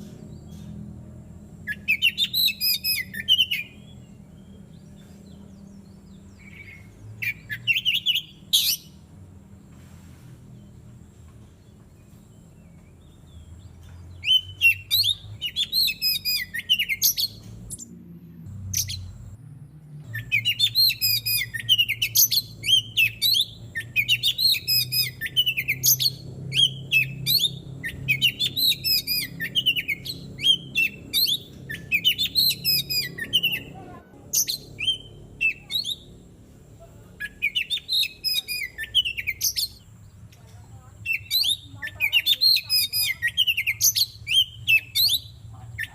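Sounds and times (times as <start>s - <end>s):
bird singing whistled notes: 1.6s - 9.1s, 11.8s - 18.0s, 18.6s - 19.4s, 20.0s - 36.1s, 37.2s - 40.0s, 41.0s - 45.9s.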